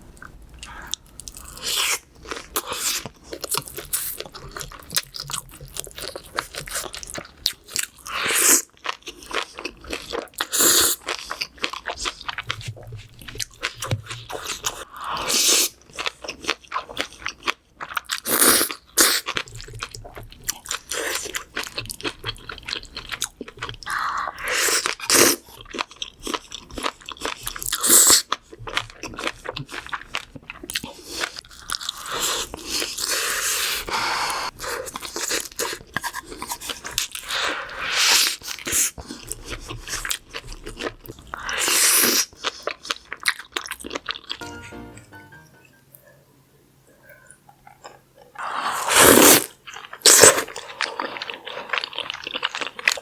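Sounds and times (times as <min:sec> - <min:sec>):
person chewing and crunching: 0:00.2 - 0:44.4, 0:47.5 - 0:53.0.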